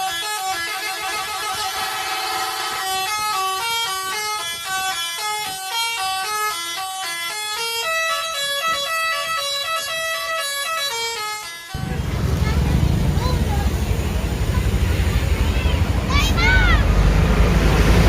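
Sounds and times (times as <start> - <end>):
bus musical horn playing tune: 0.0 - 17.1.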